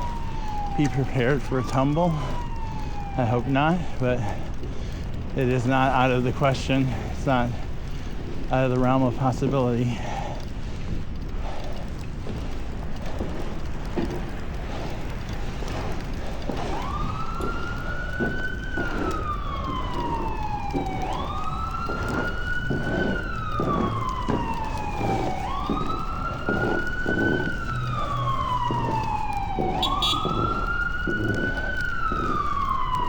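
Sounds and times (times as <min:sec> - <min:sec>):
emergency vehicle siren wailing: 0:00.0 - 0:33.0.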